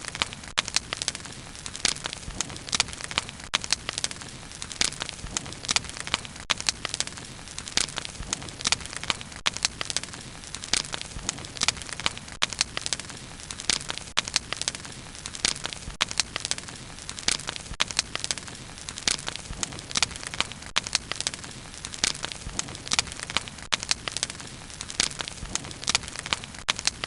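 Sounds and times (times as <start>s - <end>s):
low rush of flames: 0.0s - 26.9s
burning wood popping and snapping: 0.0s - 27.0s.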